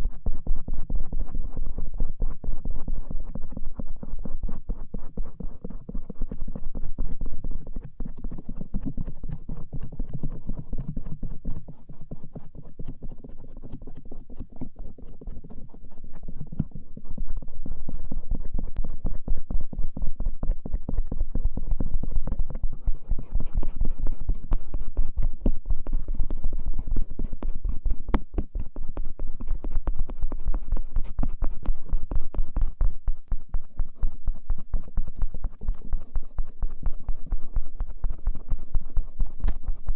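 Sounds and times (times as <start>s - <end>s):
ear pick scratching ear: 4.5s - 19.2s, 22.3s - 39.9s.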